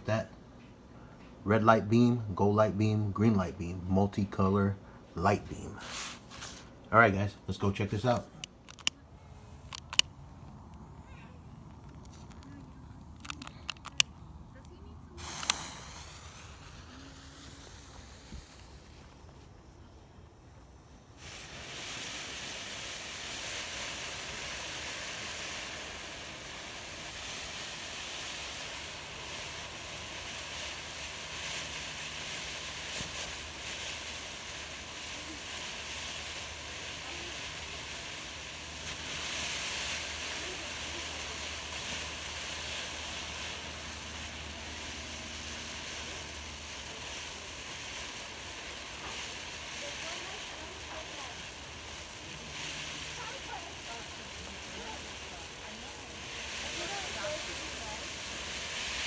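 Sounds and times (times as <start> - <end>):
firework fountain hissing spray: 0.0 - 0.3, 5.4 - 59.0.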